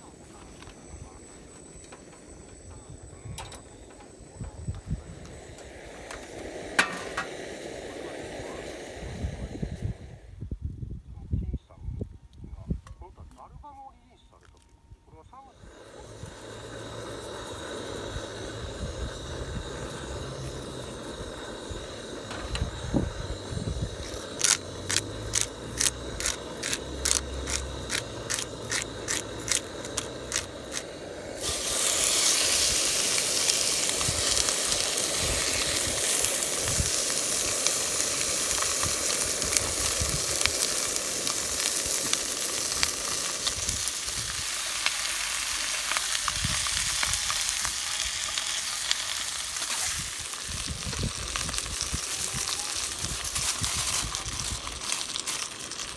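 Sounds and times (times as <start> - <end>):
food sizzling in a pan: 3.2 - 10.1, 15.6 - 55.9.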